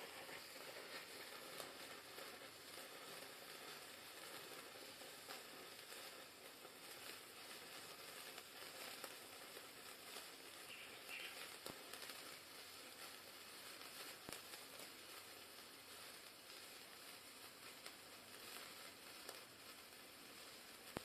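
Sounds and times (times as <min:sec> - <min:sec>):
sparkler fizzing crackle: 0:00.0 - 0:21.0.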